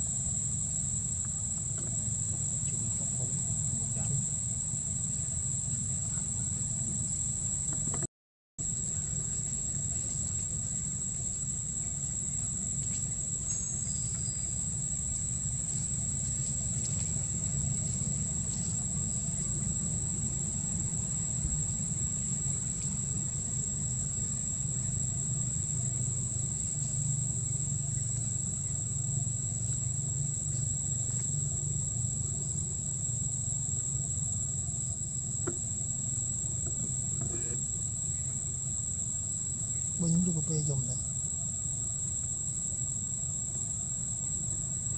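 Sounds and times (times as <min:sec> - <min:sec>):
constant low rumble: 0:00.0 - 0:44.9.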